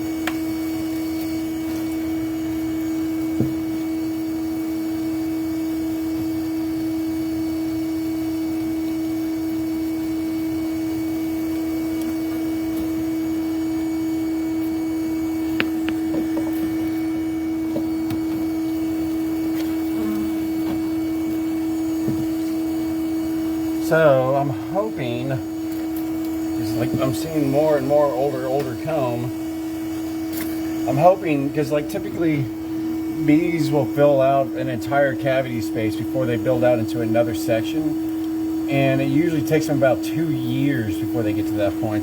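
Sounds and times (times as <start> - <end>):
vacuum motor humming: 0.0 - 42.0.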